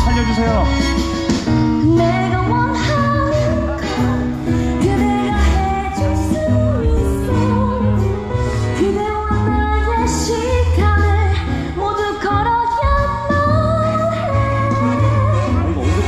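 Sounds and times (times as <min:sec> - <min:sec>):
bass line: 0:00.0 - 0:16.0.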